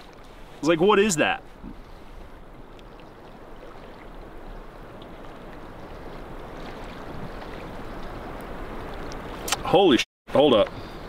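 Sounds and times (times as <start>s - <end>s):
river flowing: 0.0s - 9.8s.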